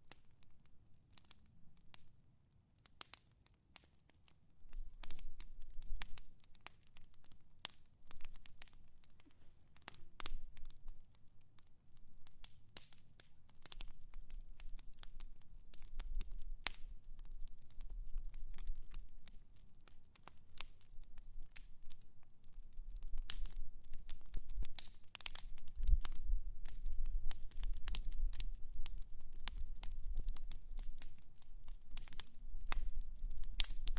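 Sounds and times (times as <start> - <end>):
fire crackling: 0.0 - 33.9.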